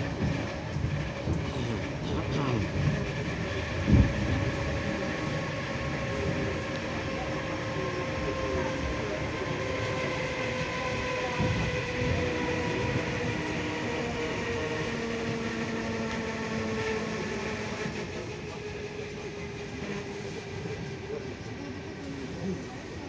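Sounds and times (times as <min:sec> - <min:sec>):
electric train running: 0:00.0 - 0:23.0.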